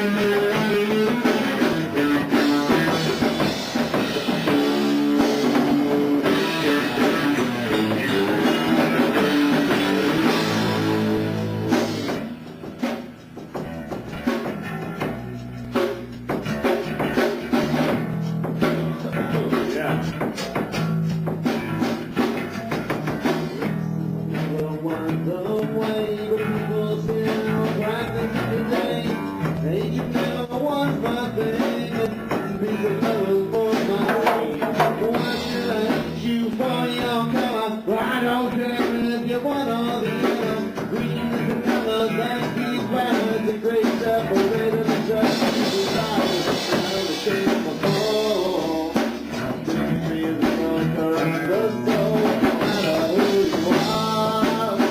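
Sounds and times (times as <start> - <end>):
rock band playing: 0.0 - 54.9.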